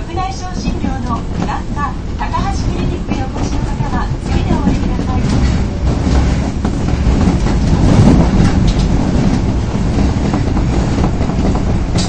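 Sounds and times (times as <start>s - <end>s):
rail-joint clicks: 0.0s - 12.0s
subway train rumble: 0.0s - 12.0s.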